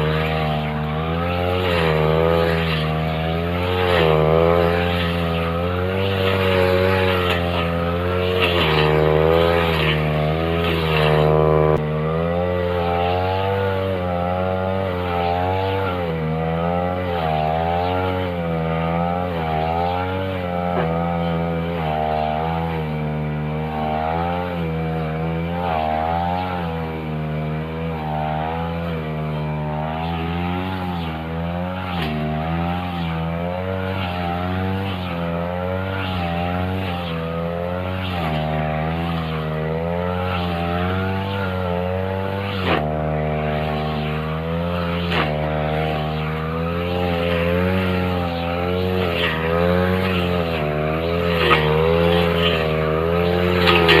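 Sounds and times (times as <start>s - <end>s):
brush cutter cutting grass: 0.0s - 54.0s.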